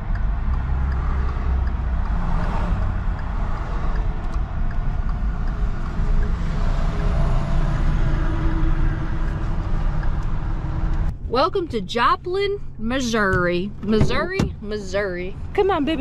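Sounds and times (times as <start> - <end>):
road noise: 0.0 - 16.0
truck engine and tyre rumble: 0.0 - 16.0.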